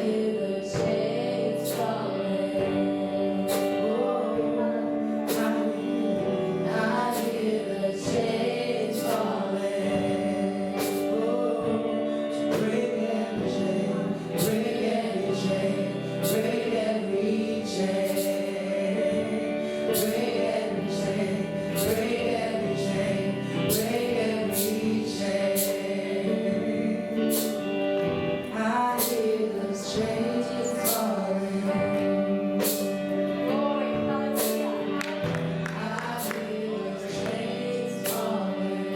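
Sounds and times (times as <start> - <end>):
gospel singers with band: 0.0 - 38.9
drum and cymbal beat: 0.8 - 4.6, 5.2 - 13.7, 14.3 - 15.6, 17.6 - 26.2, 27.2 - 27.8, 28.9 - 33.3, 34.0 - 38.5.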